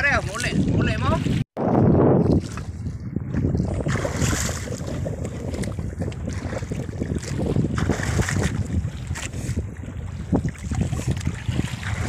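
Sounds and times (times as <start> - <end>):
water lapping against boat: 0.0 - 1.5, 2.2 - 12.0
wind buffeting microphone: 0.0 - 12.0.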